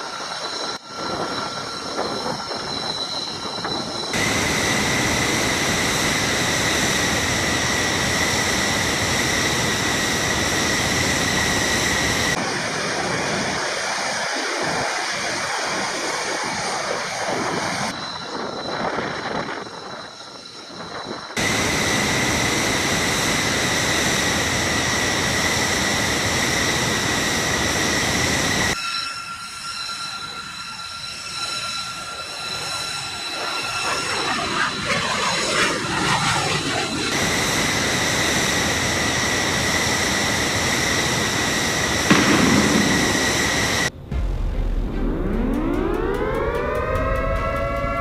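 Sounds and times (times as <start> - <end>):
jet engines roaring: 0.0 - 48.0.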